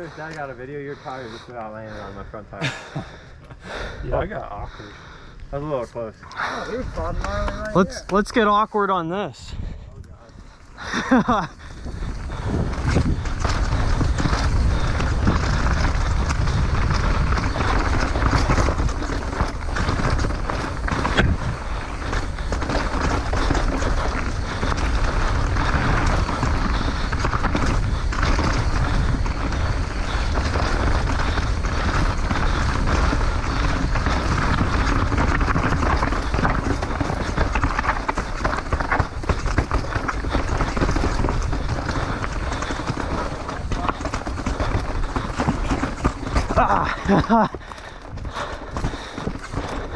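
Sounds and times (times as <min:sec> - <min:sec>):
wind rush on microphone: 0:00.0 - 0:08.1, 0:09.3 - 0:49.9
bike clicking and rattling: 0:00.0 - 0:08.6, 0:09.6 - 0:49.9
tyres on dirt and rocks: 0:00.0 - 0:49.9.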